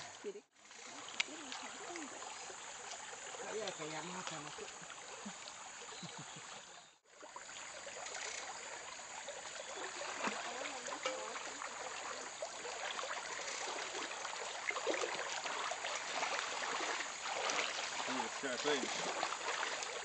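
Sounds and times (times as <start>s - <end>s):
person wading through water: 0.0s - 20.0s
stream running: 0.0s - 20.0s.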